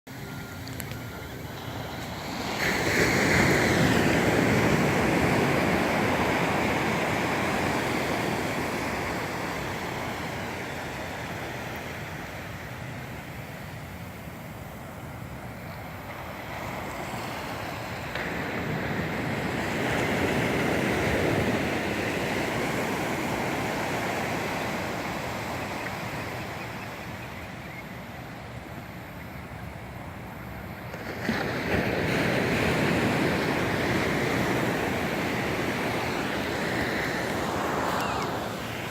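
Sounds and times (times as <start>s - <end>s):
ocean waves surging: 0.1s - 38.9s.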